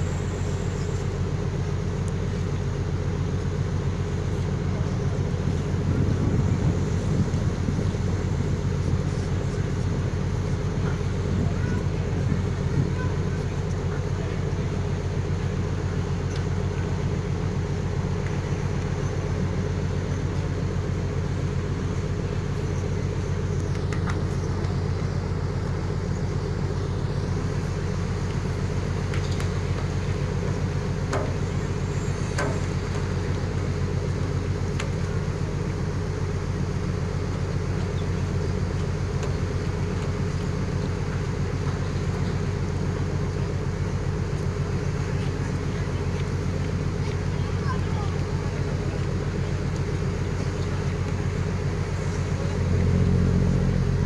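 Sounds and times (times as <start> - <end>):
diesel engines droning: 0.0 - 54.0.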